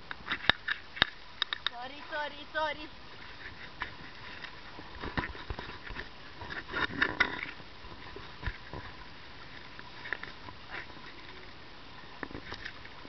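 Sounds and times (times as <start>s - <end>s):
water slapping against hull: 0.0s - 13.0s
wind and water rushing: 0.0s - 13.0s.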